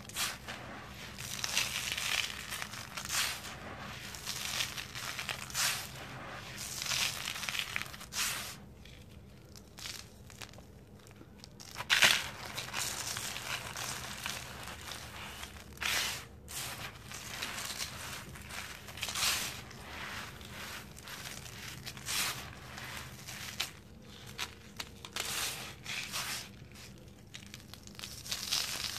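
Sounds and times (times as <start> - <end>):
cement lumps crunching: 0.0 - 28.9.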